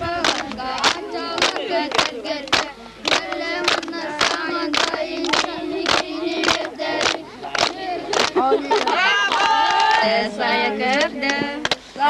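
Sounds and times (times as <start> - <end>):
group singing together: 0.0 - 12.0
rhythmic handclaps: 0.1 - 12.0.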